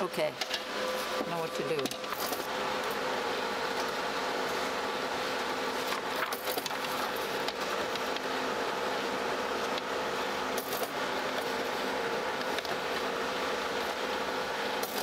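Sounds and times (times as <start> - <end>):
photocopier humming: 0.0 - 15.0.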